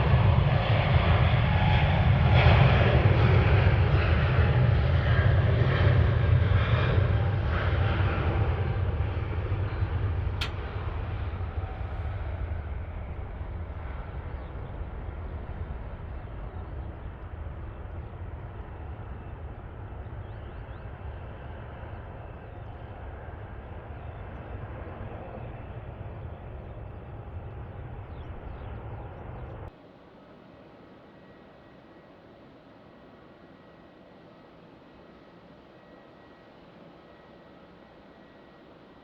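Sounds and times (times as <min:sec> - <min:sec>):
airliner engine rumble: 0:00.0 - 0:39.0.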